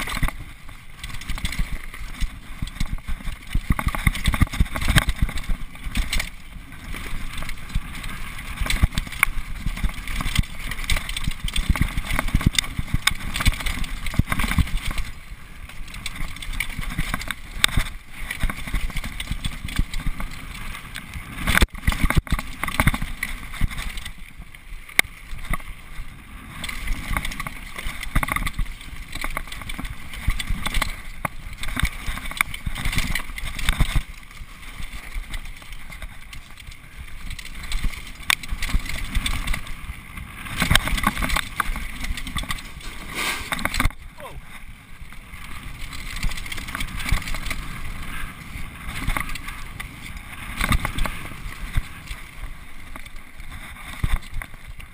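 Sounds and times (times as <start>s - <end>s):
bike rattling and knocking: 0.0s - 54.9s
tyres rumbling on dirt and stones: 0.0s - 54.9s.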